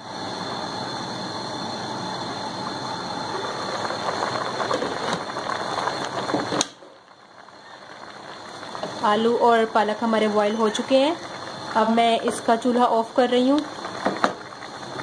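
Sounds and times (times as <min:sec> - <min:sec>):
pot boiling and bubbling: 0:00.0 - 0:15.0.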